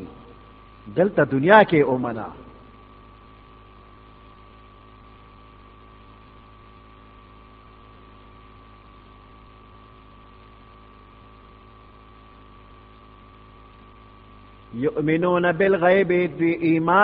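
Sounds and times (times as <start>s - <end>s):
electrical mains hum and hiss: 0.0s - 17.0s
steady high whine: 0.0s - 17.0s.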